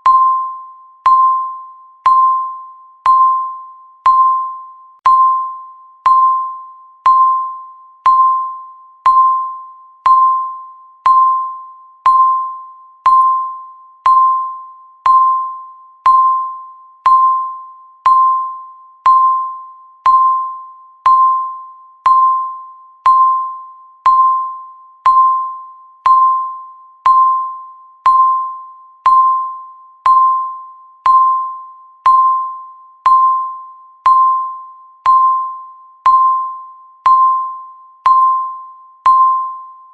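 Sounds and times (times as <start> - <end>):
countdown timer ticking: 1.0 - 39.6.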